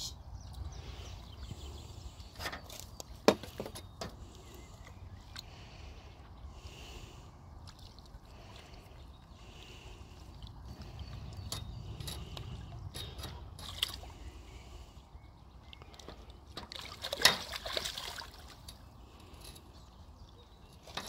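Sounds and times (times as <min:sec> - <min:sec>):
water sloshing and trickling: 0:00.2 - 0:21.0.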